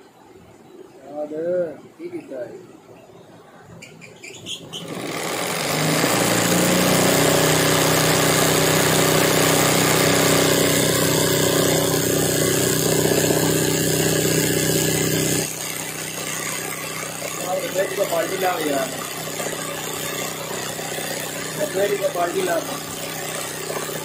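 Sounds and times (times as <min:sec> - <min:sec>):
sewing machine stitching: 0:04.7 - 0:24.0.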